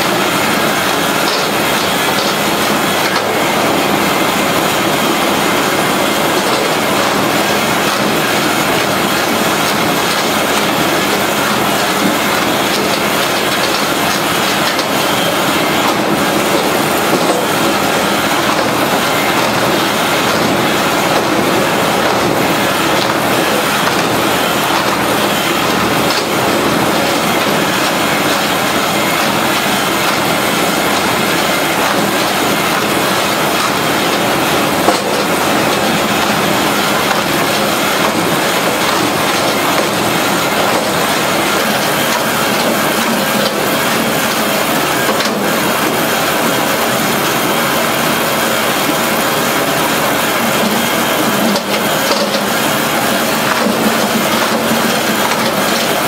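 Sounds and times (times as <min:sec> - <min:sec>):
firewood machine clattering: 0:00.0 - 0:56.0.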